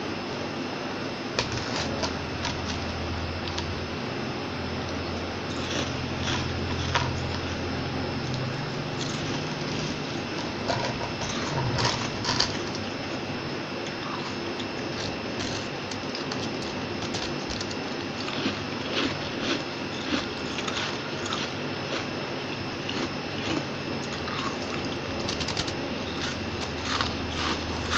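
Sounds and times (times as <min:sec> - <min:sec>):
frost crunching and crackling: 0:01.4 - 0:03.8, 0:04.9 - 0:22.1, 0:22.8 - 0:27.9.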